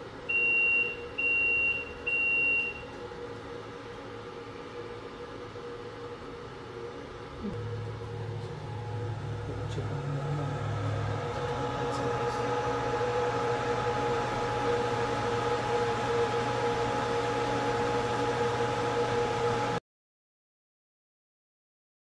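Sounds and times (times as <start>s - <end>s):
cooling fans rushing air: 0.0s - 19.8s
steady hum: 0.0s - 19.8s.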